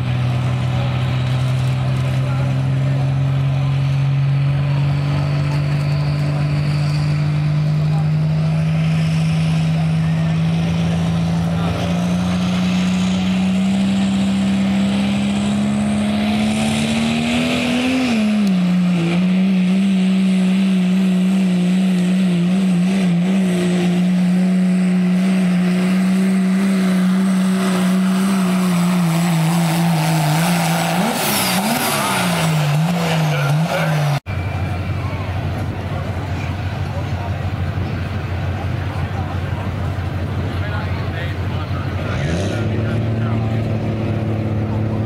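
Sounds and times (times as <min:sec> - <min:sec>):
diesel truck engine at full throttle: 0:00.0 - 0:45.0.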